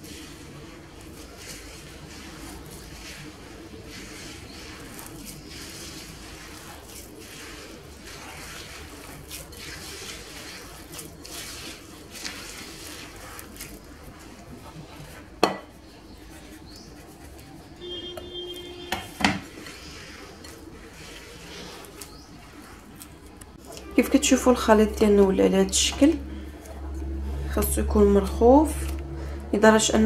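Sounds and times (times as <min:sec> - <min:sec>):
hands kneading dough in bowl: 0:00.0 - 0:30.0.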